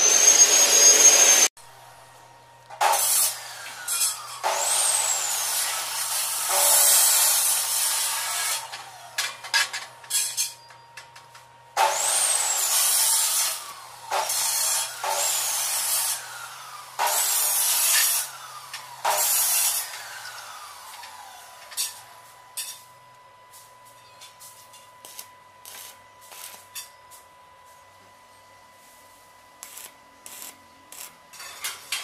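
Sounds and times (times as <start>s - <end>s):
arc welding crackling and hissing: 2.1s - 10.5s, 11.8s - 27.8s, 28.7s - 32.0s.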